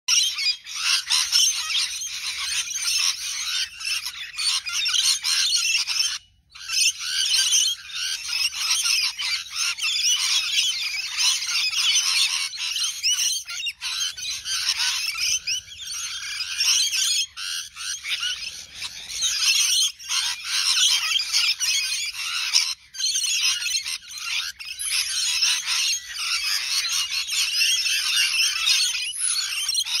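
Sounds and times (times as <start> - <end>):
parrots chattering and screeching: 0.1 - 30.0.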